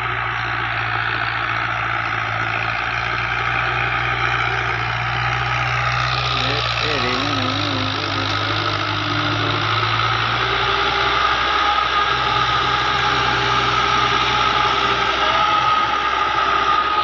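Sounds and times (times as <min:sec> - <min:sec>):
high machine whine: 0:00.0 - 0:17.0
tractor diesel engine drone: 0:00.0 - 0:17.0.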